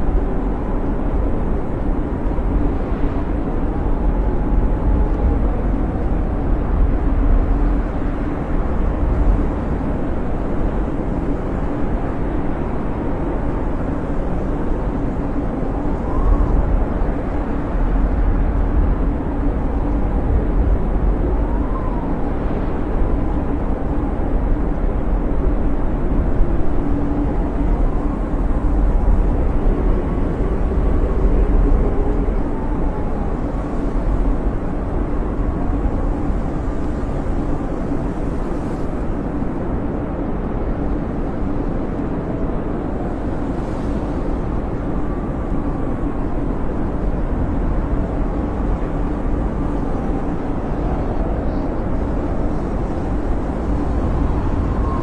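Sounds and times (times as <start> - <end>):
wind howling: 0.0 - 55.0.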